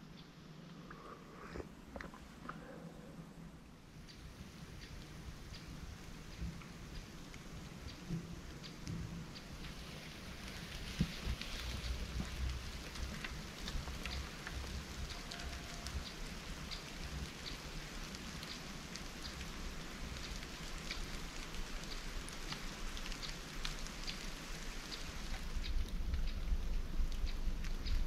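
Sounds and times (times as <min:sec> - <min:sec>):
low rumble of rain: 0:00.0 - 0:28.0
raindrops ticking: 0:00.0 - 0:28.0.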